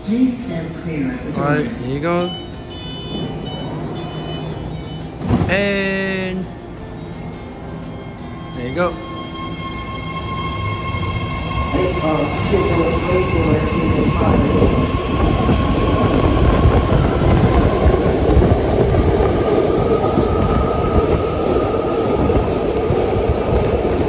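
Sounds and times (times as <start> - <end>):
train rail rumble: 0.0 - 24.0.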